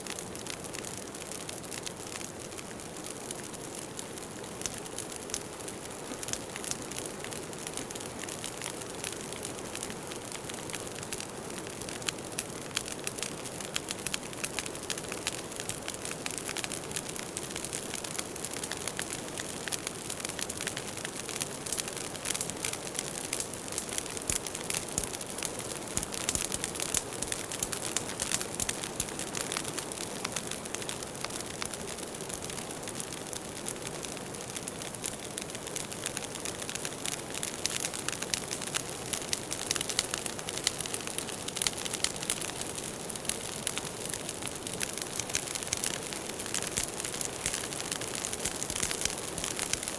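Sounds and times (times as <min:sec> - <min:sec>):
firewood crackling and popping: 0:00.0 - 0:49.9.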